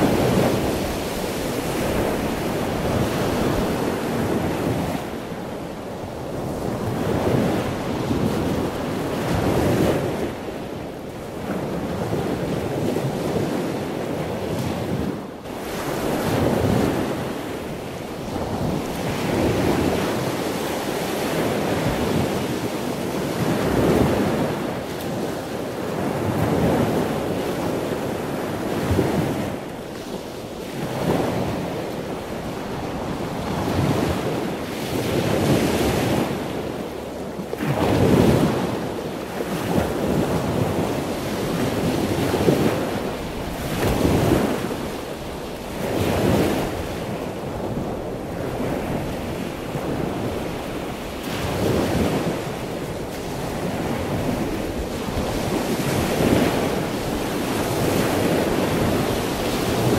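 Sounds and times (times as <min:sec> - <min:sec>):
sea waves breaking on beach: 0:00.0 - 0:59.9.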